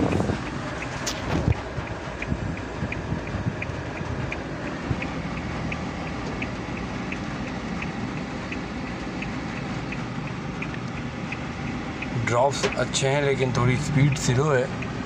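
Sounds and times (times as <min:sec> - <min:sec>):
light regular ticking: 0:00.0 - 0:15.0
rain pattering on car roof: 0:00.0 - 0:15.0
road and engine rumble: 0:00.0 - 0:15.0.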